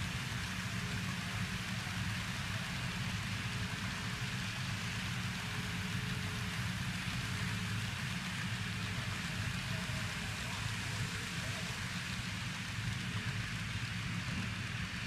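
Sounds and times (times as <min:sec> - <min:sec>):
model train cars rolling on track: 0:00.0 - 0:15.0.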